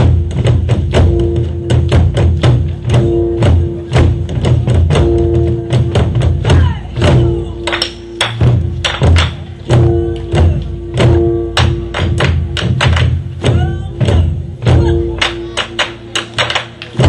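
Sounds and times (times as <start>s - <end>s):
deep booming drums: 0.0s - 16.2s
drumheads ringing: 0.0s - 17.0s.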